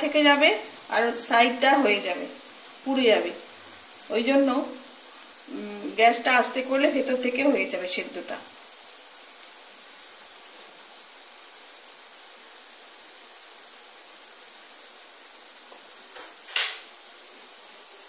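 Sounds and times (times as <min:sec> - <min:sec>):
oil sizzling and bubbling: 0:00.0 - 0:18.0.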